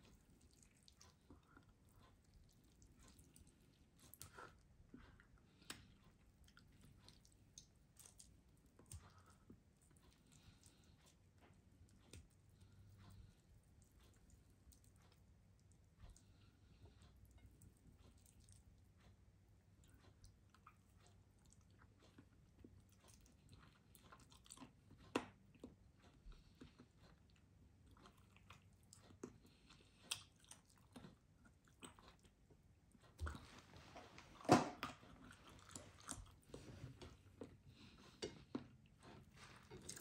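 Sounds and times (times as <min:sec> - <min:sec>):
person chewing wet clicks: 0:00.0 - 0:19.0, 0:19.7 - 0:33.6, 0:34.8 - 0:36.5, 0:37.4 - 0:40.0.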